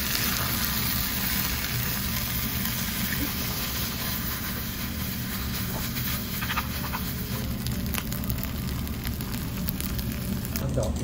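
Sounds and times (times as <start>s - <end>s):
food sizzling in stone bowl: 0.0s - 11.0s.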